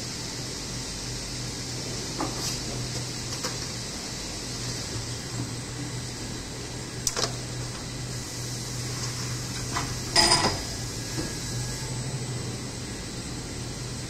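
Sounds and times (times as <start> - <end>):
machine humming and hissing: 0.0 - 14.0.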